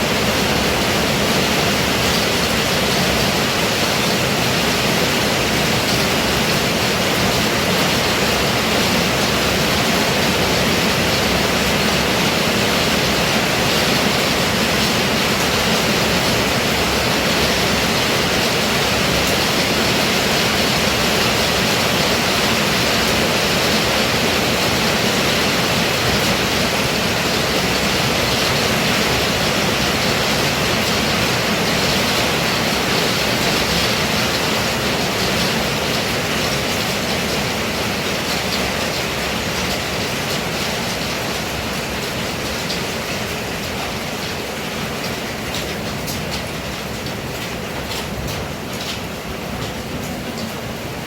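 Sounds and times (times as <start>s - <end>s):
heavy rain pouring: 0.0s - 51.0s.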